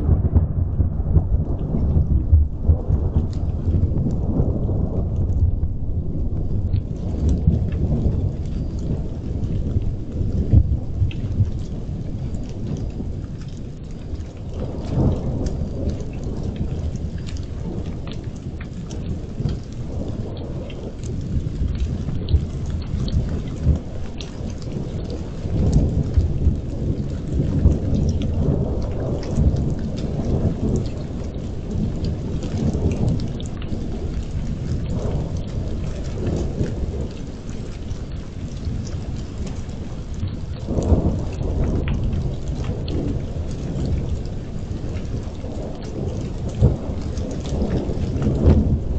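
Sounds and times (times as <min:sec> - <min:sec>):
rain on pavement: 0:00.0 - 0:48.9
rolling thunder: 0:00.0 - 0:48.9.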